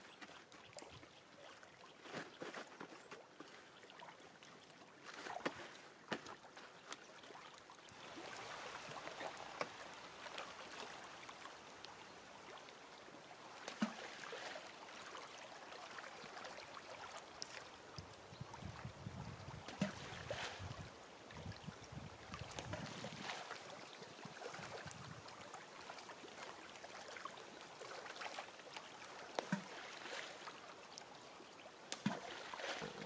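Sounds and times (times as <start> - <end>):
small waves lapping at shore: 0.0 - 33.0.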